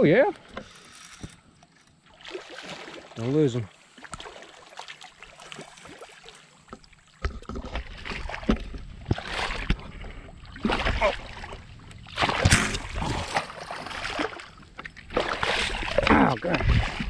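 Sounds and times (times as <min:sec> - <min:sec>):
fish splashing in water: 0:02.1 - 0:17.0.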